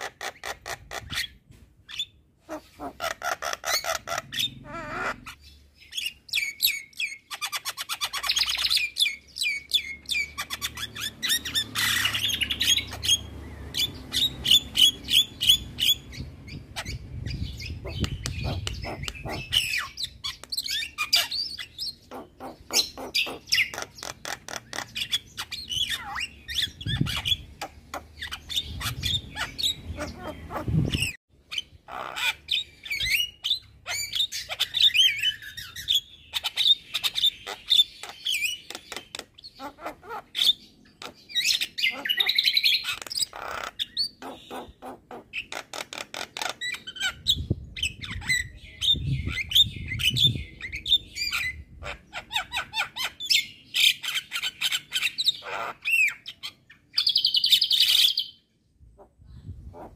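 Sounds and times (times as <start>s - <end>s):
bird singing chattering notes: 0.0s - 58.5s.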